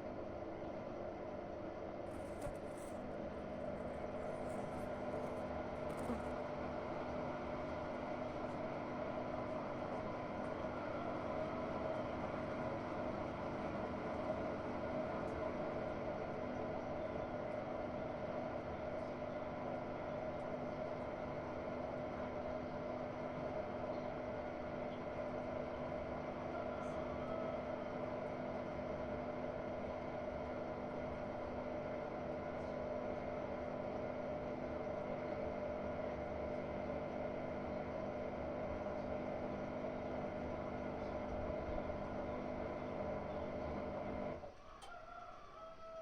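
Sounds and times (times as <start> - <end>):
washing machine motor whining hum: 0.0 - 46.0.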